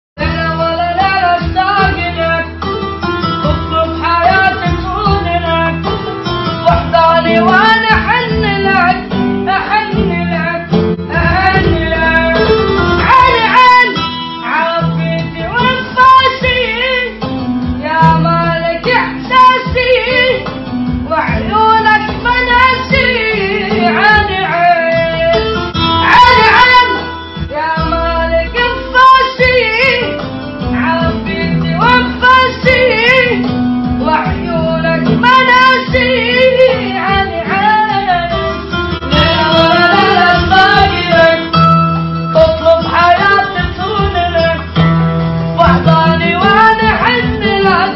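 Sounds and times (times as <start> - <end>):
young man singing: 0.2 - 2.7, 3.3 - 41.6, 42.3 - 44.8, 45.6 - 47.9
plucked string accompaniment: 0.2 - 47.9.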